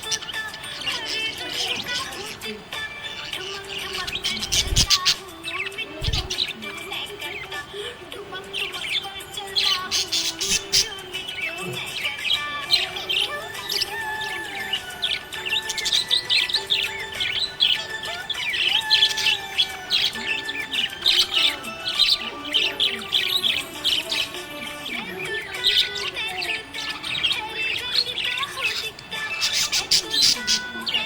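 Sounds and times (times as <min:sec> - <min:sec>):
budgerigar chirping: 0:00.0 - 0:31.0.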